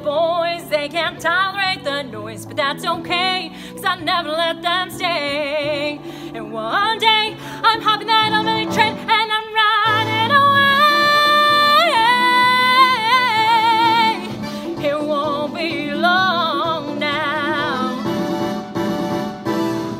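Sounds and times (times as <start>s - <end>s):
woman singing: 0.0s - 18.4s
instrumental backing track: 0.0s - 19.9s.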